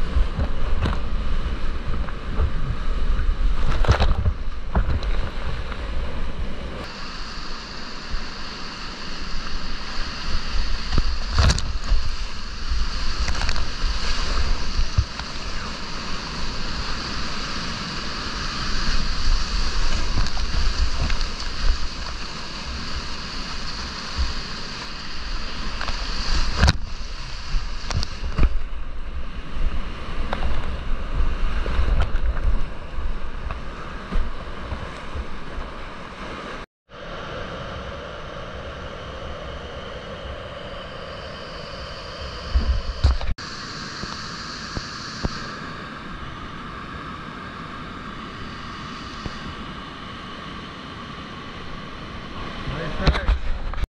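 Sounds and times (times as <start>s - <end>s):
waves breaking over boat: 0.0s - 40.5s, 41.3s - 53.9s
rapids rushing and splashing: 0.0s - 53.9s.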